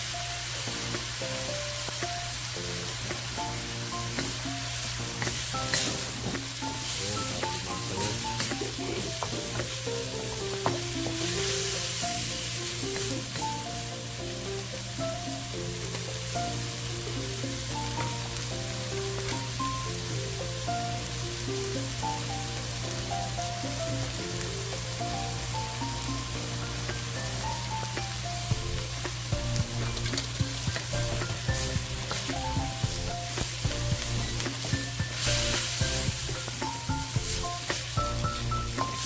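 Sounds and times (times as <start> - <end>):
food sizzling in a wok: 0.0 - 39.0
soft background music: 0.0 - 39.0.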